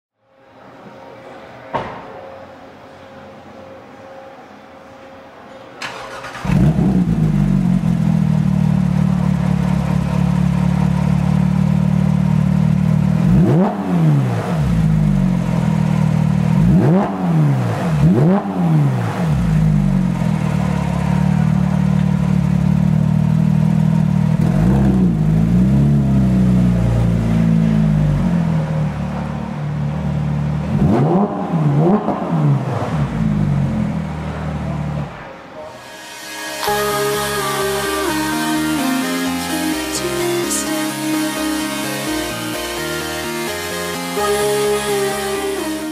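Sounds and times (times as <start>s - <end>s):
car engine revving sharply: 5.8s - 45.9s
car engine starting and idling: 5.8s - 45.9s.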